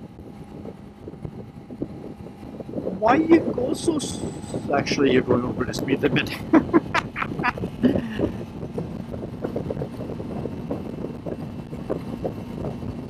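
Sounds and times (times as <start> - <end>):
motorcycle engine hum: 0.0 - 13.0
wind rushing on microphone: 0.0 - 13.0.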